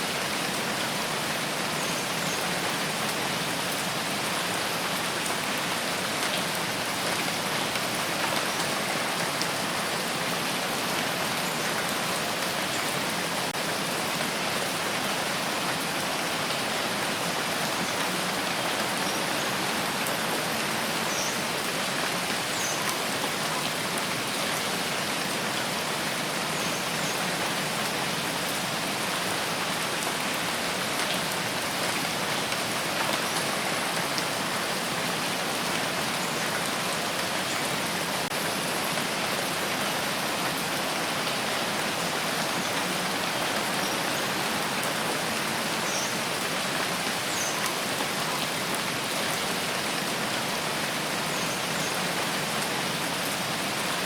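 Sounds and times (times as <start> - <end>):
rain pattering: 0.4 - 54.0.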